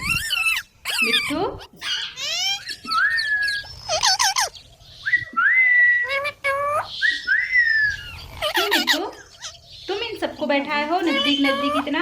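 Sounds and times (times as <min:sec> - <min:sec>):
parakeets whistling and chattering: 0:00.0 - 0:12.0.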